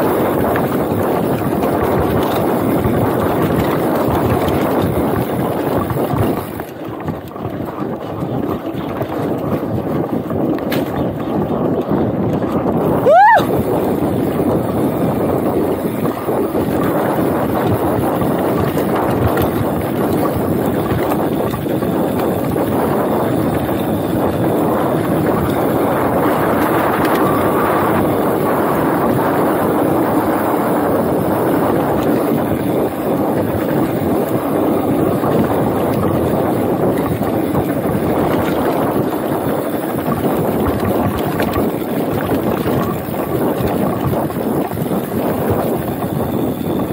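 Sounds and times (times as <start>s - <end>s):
bike tyres rolling on dirt: 0.0s - 46.9s
wind over microphone: 0.0s - 46.9s.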